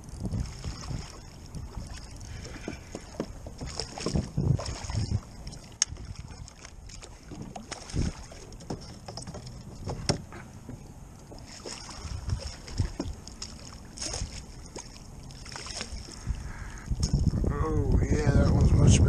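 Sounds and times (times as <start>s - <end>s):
handling noise in kayak: 0.0s - 17.5s.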